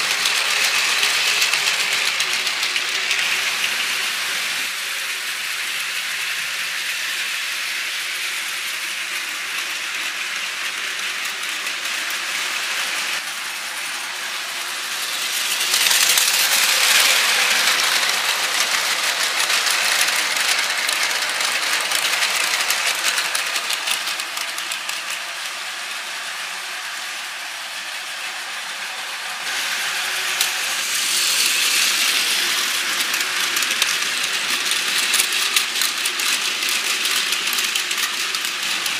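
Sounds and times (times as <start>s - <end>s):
toy train motors whirring: 0.0s - 38.9s
wheels rattling on plastic track: 0.0s - 38.9s.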